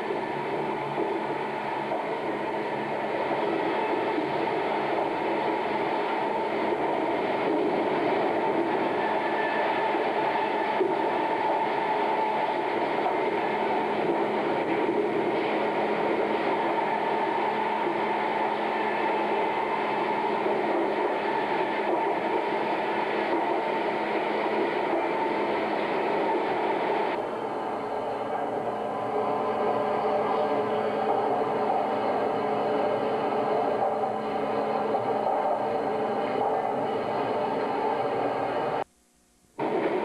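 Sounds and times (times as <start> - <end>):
steady machine hum: 0.0 - 40.0.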